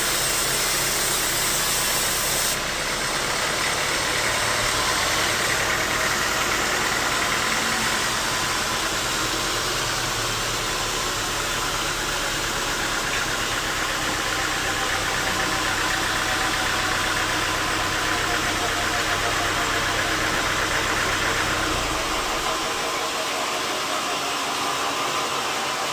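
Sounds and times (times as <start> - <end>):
engine running: 0.0 - 25.9.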